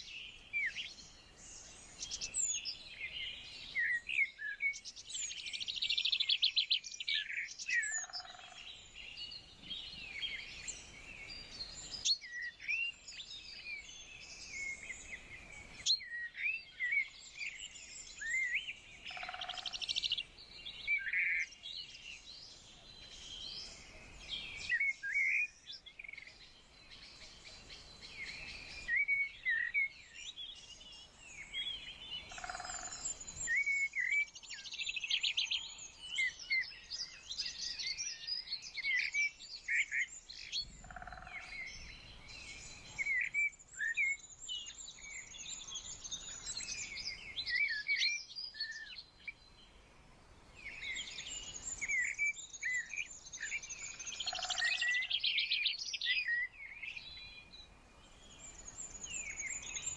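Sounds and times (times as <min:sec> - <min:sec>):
small birds chirping: 0:00.0 - 0:49.8, 0:50.5 - 0:59.9.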